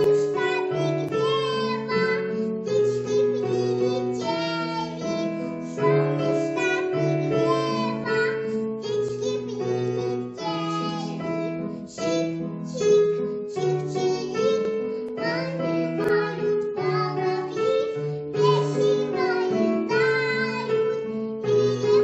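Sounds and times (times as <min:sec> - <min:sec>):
children singing: 0:00.0 - 0:22.0
piano accompaniment: 0:00.0 - 0:22.0.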